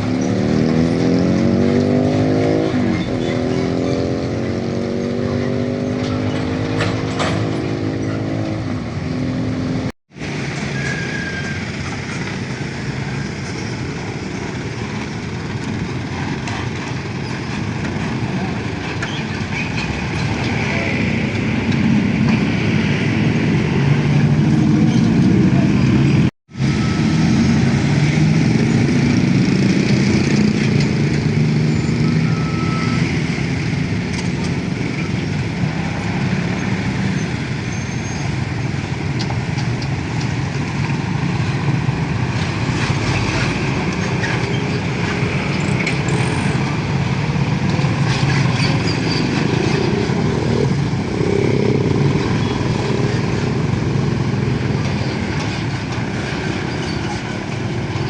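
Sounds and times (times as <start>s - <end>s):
heavy vehicle engines in traffic: 0.0s - 58.0s.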